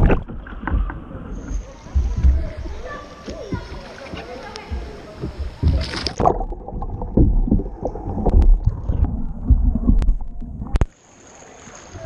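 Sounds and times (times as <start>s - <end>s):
muffled underwater thumps and rumble: 0.0s - 10.9s.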